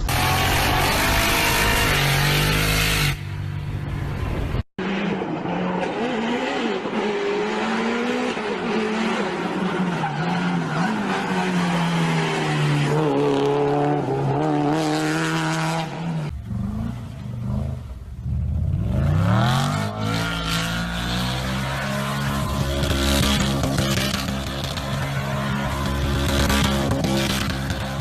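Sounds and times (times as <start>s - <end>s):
rally car engine revving: 0.0s - 3.2s, 4.8s - 28.0s.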